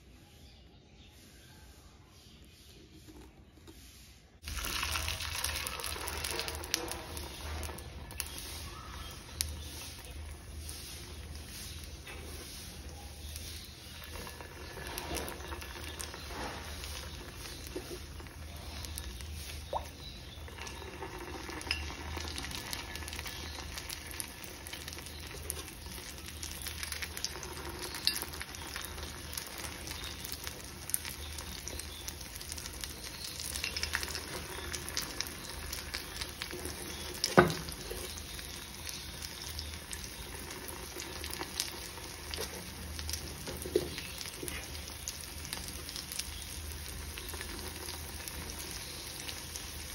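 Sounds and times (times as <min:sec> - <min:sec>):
batter sizzling in hot oil: 0:02.6 - 0:49.9.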